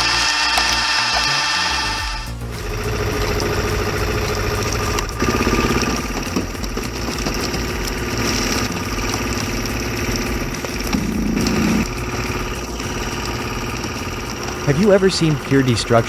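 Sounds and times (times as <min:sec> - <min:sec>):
log splitter engine running: 0:00.0 - 0:16.0.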